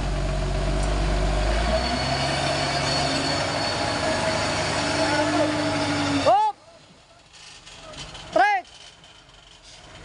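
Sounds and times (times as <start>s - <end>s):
truck diesel engine under load: 0.0s - 10.0s.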